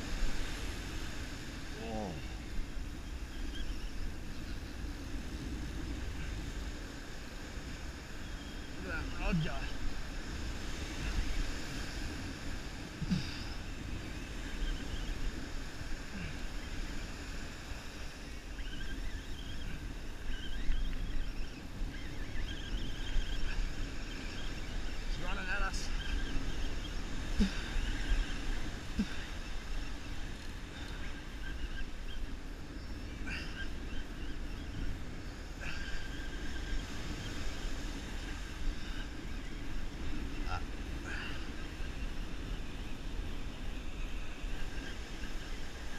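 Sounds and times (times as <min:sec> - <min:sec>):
surf washing up beach: 0:00.0 - 0:45.9
wind rumble on microphone: 0:00.0 - 0:45.9.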